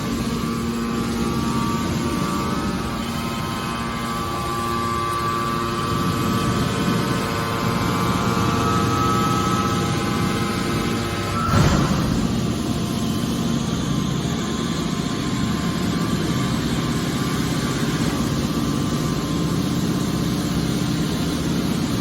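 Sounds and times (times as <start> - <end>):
baler machine drone: 0.0 - 22.0
hydraulic pump whine: 0.0 - 22.0.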